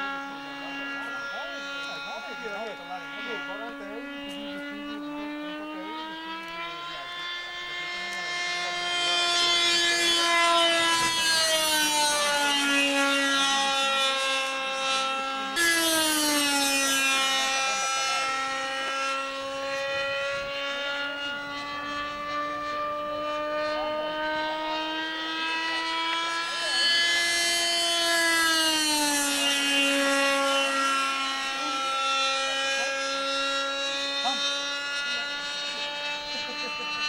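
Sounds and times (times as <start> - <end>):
model jet engine whine: 0.0 - 37.0.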